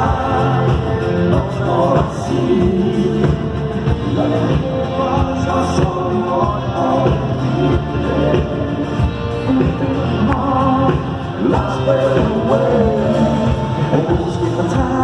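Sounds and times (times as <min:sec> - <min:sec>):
drums keeping a steady beat: 0:00.0 - 0:15.0
rock band playing live: 0:00.0 - 0:15.0.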